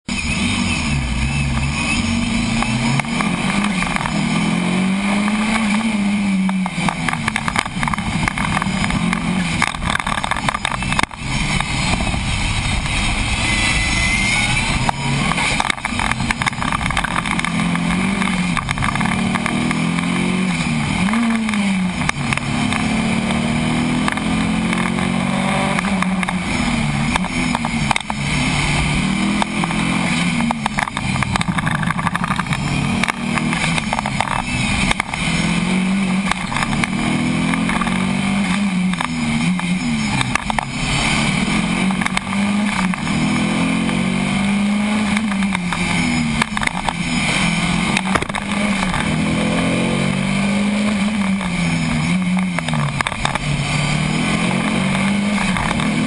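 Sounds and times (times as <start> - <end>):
car engine revving through gears: 0.1 - 56.0
wind noise: 0.3 - 56.0.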